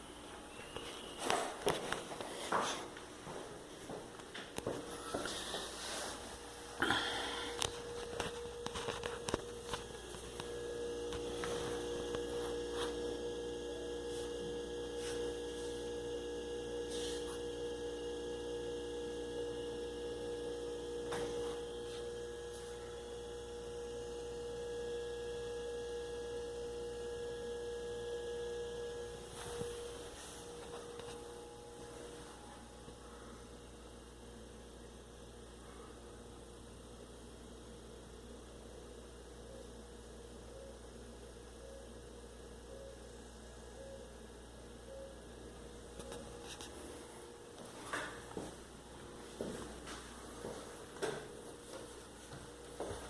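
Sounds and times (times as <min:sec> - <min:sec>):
refrigerator electrical hum: 0:00.0 - 0:53.0.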